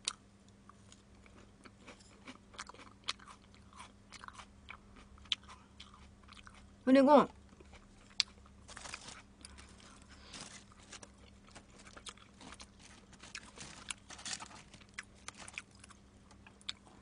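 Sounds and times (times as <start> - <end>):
chewing crispy food: 0.0 - 6.8, 7.4 - 17.0.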